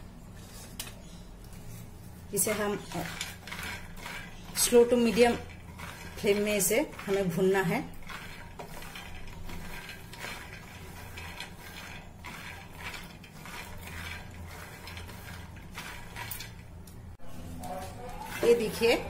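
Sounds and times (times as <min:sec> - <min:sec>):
peanuts rattling in metal pan: 0:02.2 - 0:19.0.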